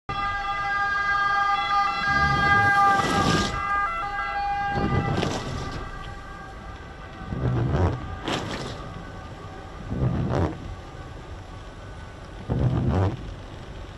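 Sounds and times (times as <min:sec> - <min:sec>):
emergency vehicle siren: 0:00.1 - 0:13.1
rushing noise: 0:01.6 - 0:13.5.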